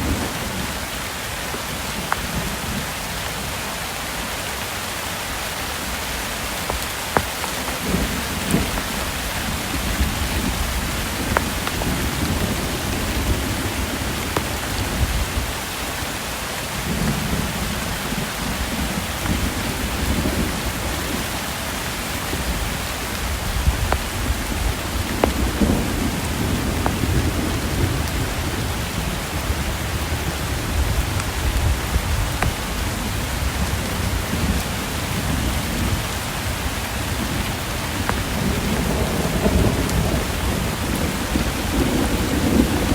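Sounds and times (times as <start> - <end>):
distant thunder rumbling: 0.0 - 3.6, 5.4 - 16.1, 16.7 - 42.9
rain hissing: 0.0 - 42.9
raindrops tapping nearby: 0.0 - 42.9.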